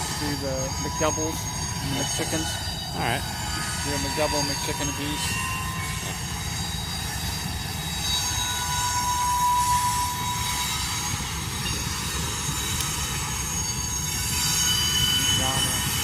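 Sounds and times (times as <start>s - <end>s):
high-pitched wheel squeals: 0.0s - 16.0s
train cars rumbling past: 0.0s - 16.0s.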